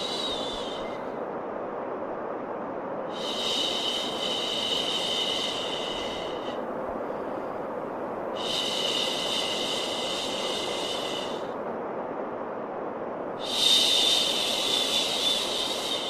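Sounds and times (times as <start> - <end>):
steady white noise: 0.0 - 16.0.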